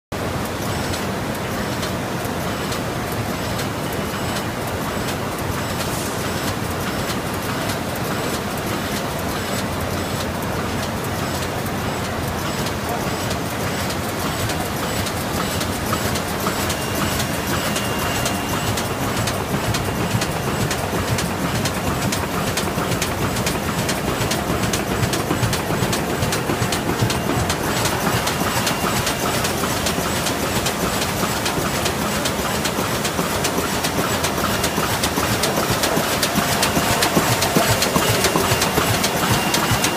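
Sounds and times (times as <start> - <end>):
machine rumble and whir: 0.2 - 39.9
exhibition hall background noise: 0.3 - 39.9.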